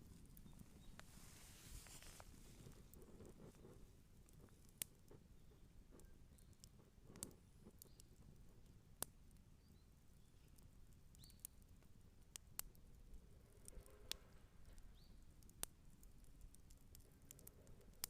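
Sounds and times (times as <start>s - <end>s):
campfire crackling and popping: 0.0s - 18.0s
faint low hiss: 0.0s - 18.0s.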